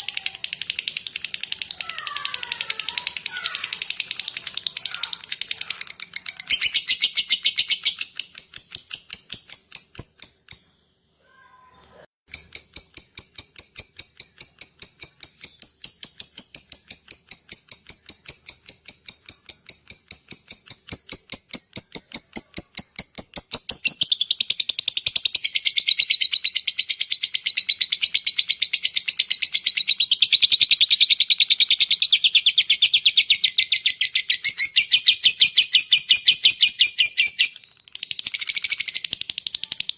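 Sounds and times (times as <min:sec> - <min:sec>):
lovebird chirping chatter: 0:00.0 - 0:39.9.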